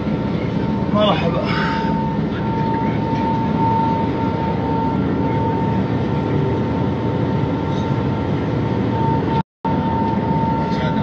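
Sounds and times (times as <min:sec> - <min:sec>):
boat engine rumble: 0:00.0 - 0:11.0
high-pitched whine: 0:00.0 - 0:11.0.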